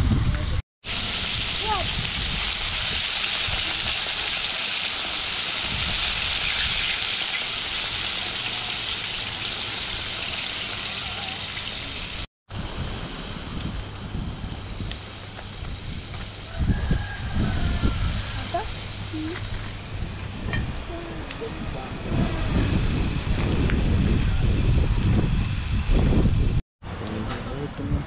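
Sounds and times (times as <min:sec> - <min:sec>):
food sizzling in hot oil: 0:00.4 - 0:13.1, 0:14.0 - 0:26.6.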